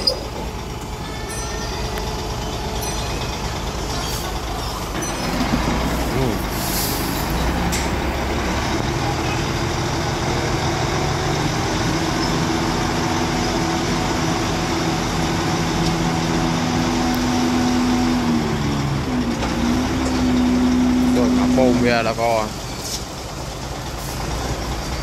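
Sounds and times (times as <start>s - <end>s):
hydraulic hoist hum: 0.0s - 23.4s
diesel truck engine running: 0.0s - 25.0s.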